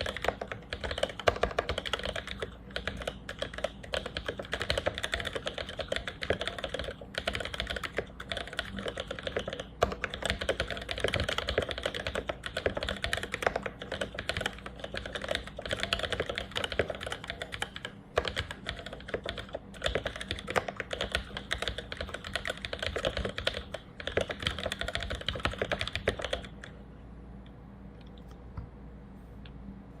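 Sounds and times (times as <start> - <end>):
mechanical keyboard typing: 0.0 - 26.7.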